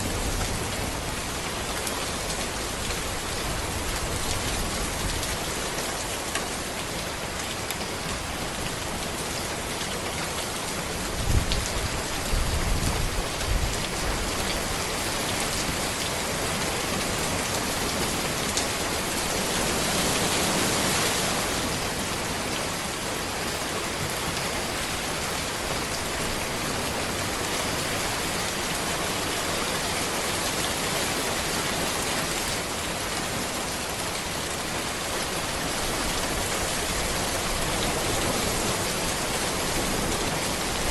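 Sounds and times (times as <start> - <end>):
rain falling on a road: 0.0 - 40.9.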